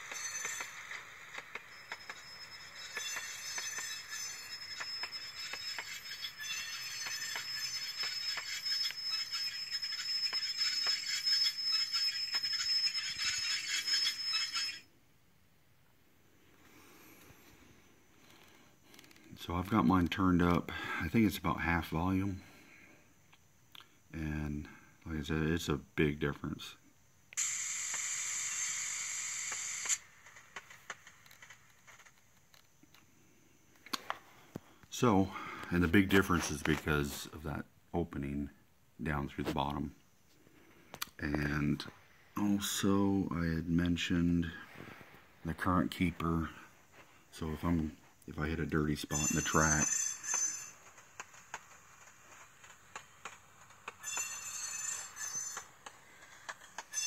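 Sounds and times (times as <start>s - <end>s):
thin high whine: 0.0s - 15.0s, 24.1s - 57.0s.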